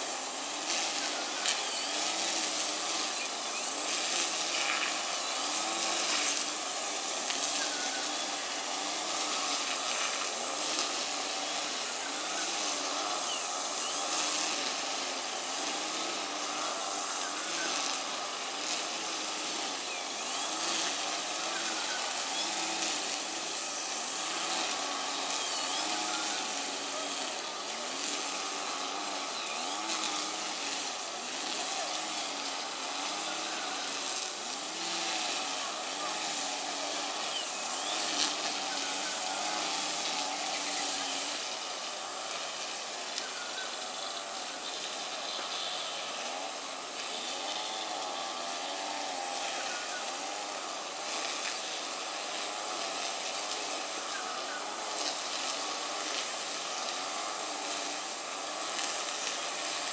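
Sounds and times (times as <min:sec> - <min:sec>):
brush cutter engine running: 0:00.0 - 0:59.9
steady hiss: 0:00.0 - 0:59.9.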